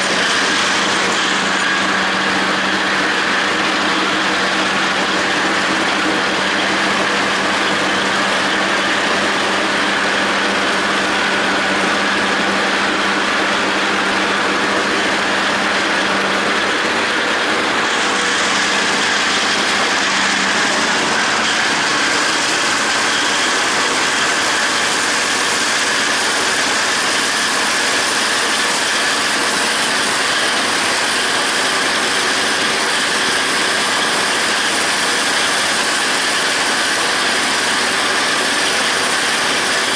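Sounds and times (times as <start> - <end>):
mower discs cutting grass: 0.0 - 39.9
tractor diesel engine running: 0.0 - 39.9.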